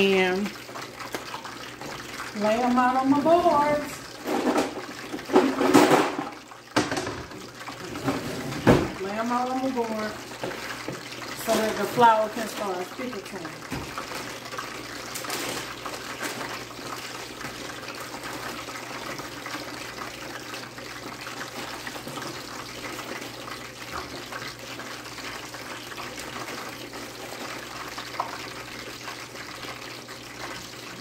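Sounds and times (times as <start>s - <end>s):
chicken sizzling in grease: 0.0s - 31.0s.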